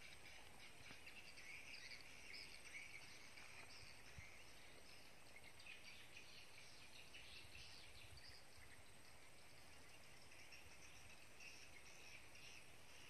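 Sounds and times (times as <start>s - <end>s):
birds chirping: 0.0s - 13.0s
faint insects chirping: 0.0s - 13.0s.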